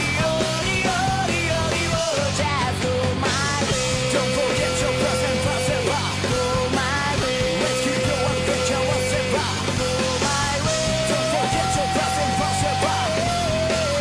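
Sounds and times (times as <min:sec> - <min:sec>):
rock music: 0:00.0 - 0:14.0.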